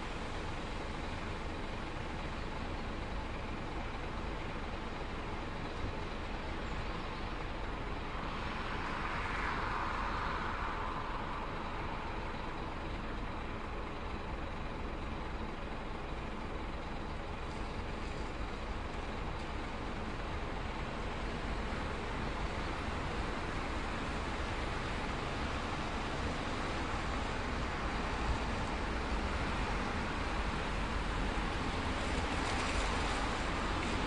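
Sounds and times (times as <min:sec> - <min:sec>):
idling buses and traffic rumble: 0:00.0 - 0:34.0.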